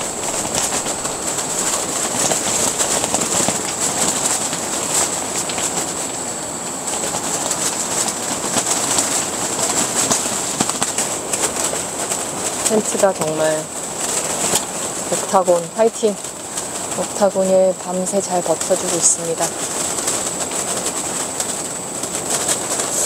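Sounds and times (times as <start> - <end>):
snow ticking on tent: 0.0 - 23.0
wind buffeting tent: 0.0 - 23.0.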